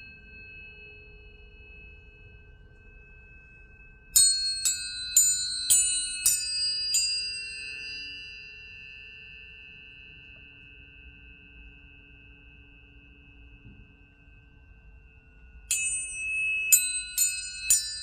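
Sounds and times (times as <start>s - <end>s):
tuning forks ringing: 0.0s - 18.0s
tuning forks struck: 0.0s - 18.0s.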